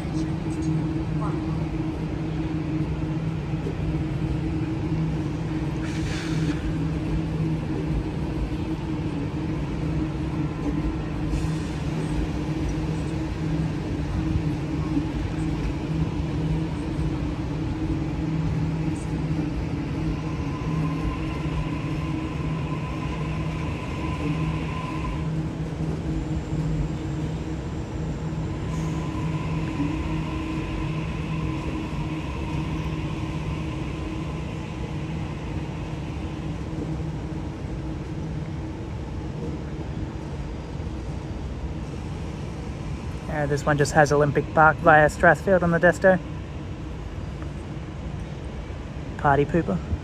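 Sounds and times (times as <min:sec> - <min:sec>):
electric train hum: 0:00.0 - 0:50.0
high train whine: 0:00.0 - 0:50.0.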